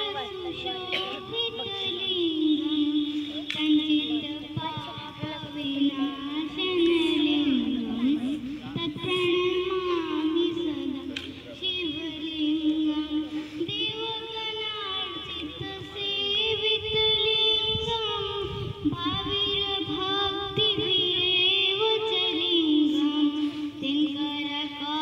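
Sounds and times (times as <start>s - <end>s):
girl singing into a microphone: 0.0s - 25.0s.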